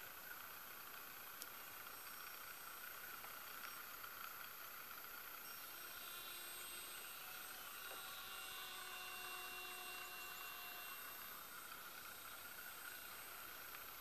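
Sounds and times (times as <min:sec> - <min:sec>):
small electric motor and propeller drone: 0:00.0 - 0:14.0.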